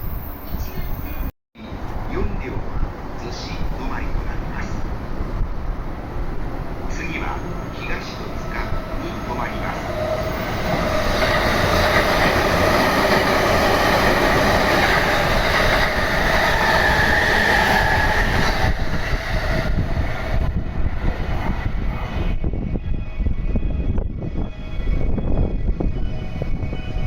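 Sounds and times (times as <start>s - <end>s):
electric train passing on rails: 0.0s - 27.0s.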